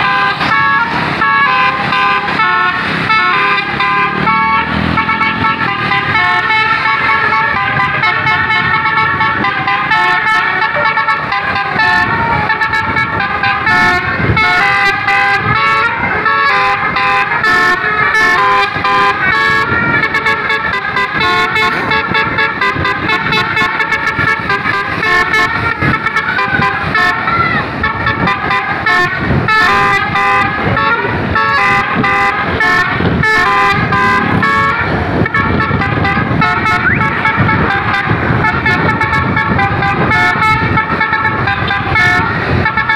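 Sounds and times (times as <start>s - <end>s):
musical bus horn melody: 0.0s - 42.9s.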